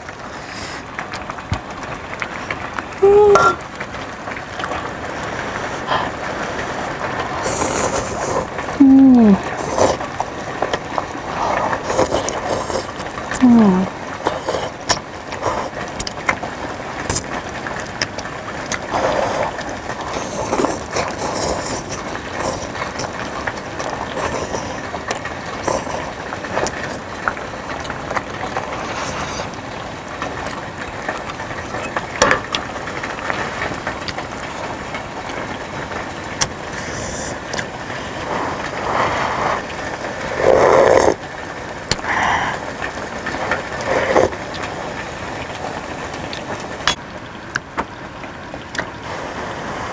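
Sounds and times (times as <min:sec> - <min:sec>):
soup boiling and bubbling: 0:00.0 - 0:49.9.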